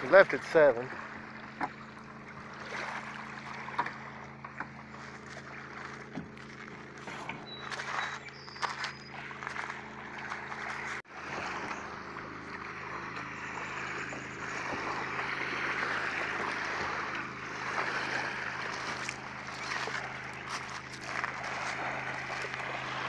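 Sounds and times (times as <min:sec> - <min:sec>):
distant motorboat engine drone: 0:00.0 - 0:23.0
river water: 0:00.0 - 0:23.0.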